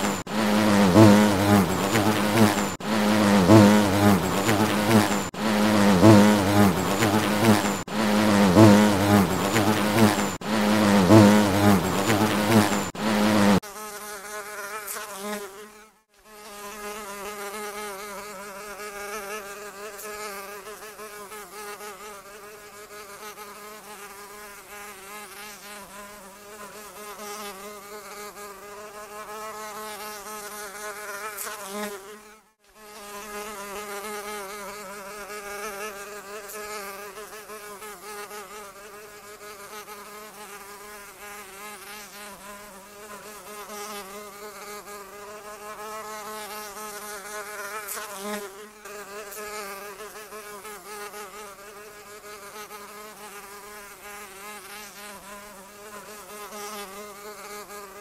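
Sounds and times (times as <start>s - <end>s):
houseflies buzzing: 0.0s - 58.0s.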